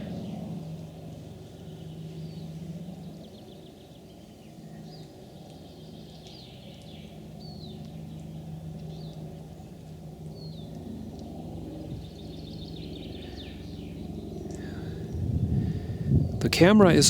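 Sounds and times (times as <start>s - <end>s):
distant small birds chirping: 0.0s - 17.0s
low steady hum: 0.0s - 17.0s.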